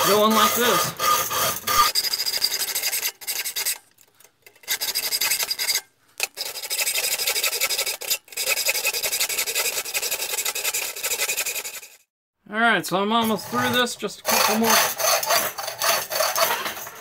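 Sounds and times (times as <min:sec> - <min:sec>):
hacksaw cutting metal: 0:00.0 - 0:12.1, 0:13.2 - 0:17.0.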